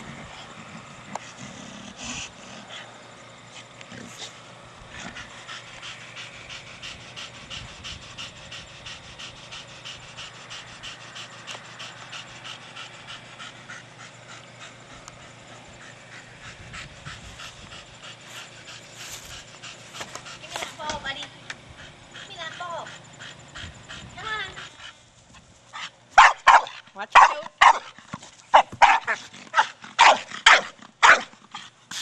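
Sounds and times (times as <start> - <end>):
dog panting: 0.0 - 32.0.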